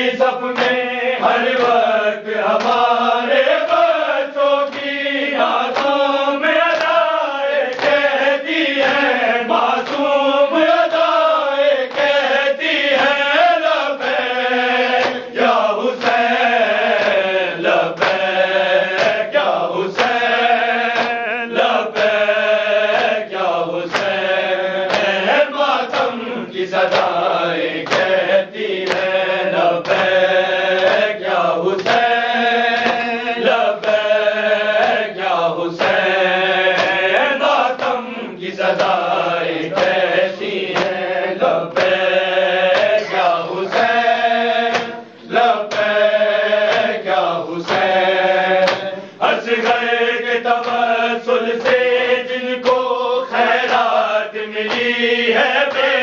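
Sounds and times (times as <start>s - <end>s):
men chanting in unison: 0.0s - 56.0s
hands slapping on chests: 0.2s - 56.0s.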